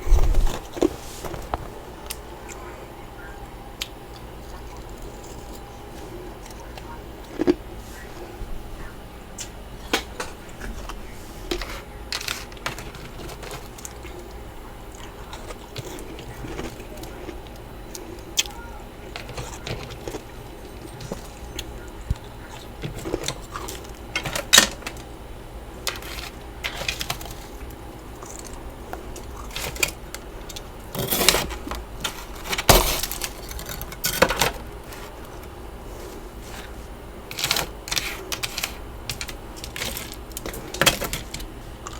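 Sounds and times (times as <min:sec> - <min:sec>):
frost scraping and crunching: 0:00.0 - 0:41.9.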